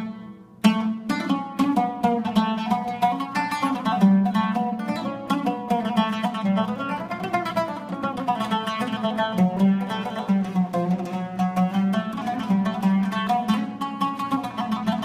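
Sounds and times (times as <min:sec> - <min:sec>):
oud melody: 0:00.0 - 0:15.0.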